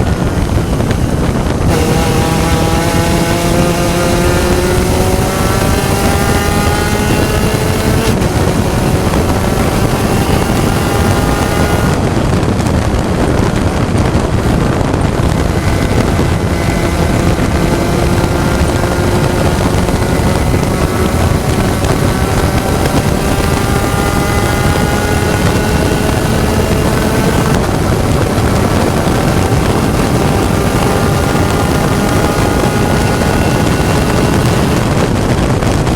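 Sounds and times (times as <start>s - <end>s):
race car engine: 0.0s - 35.9s
road noise: 0.0s - 35.9s
wind noise: 0.0s - 35.9s.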